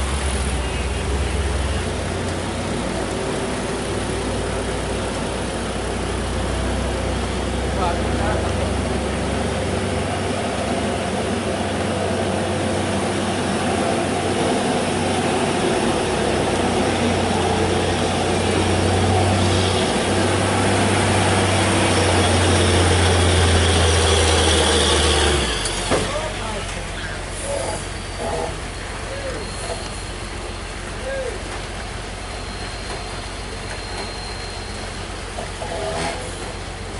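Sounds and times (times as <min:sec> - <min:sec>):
road and traffic noise: 0:00.0 - 0:36.9
truck diesel engine working hard: 0:00.0 - 0:36.9.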